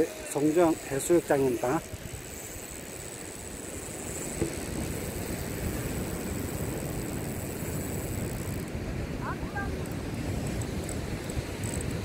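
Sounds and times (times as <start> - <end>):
wind rumble on microphone: 0.6 - 12.0.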